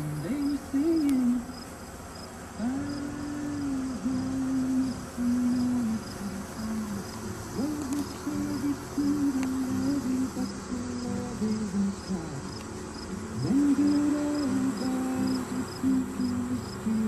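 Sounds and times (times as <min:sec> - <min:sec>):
person humming a slow tune: 0:00.0 - 0:01.6, 0:02.6 - 0:17.0
crickets chirping: 0:00.0 - 0:17.0.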